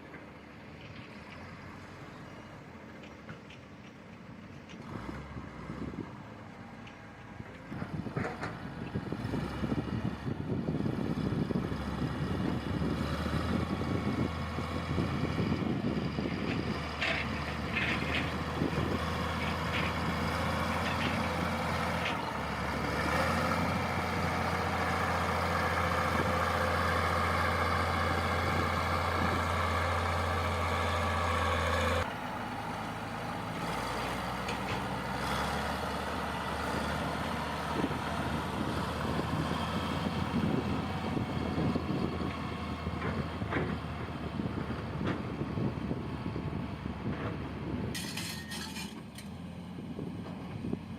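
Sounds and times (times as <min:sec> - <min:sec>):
heavy machine engine running: 0:04.4 - 0:50.9.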